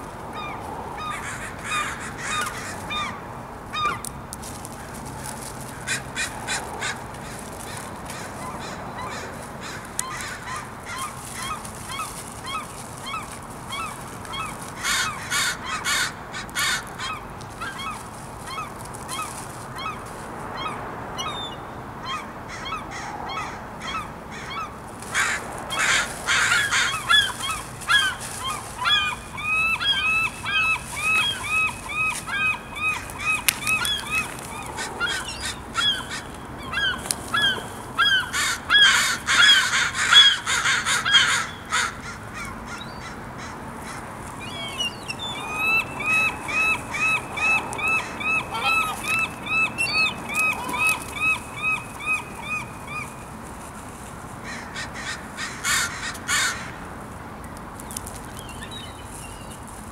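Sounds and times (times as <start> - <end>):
seagulls calling: 0.0 - 53.5, 54.4 - 56.8
crows cawing: 0.4 - 3.2, 3.8 - 20.8, 22.1 - 53.2, 54.4 - 56.8.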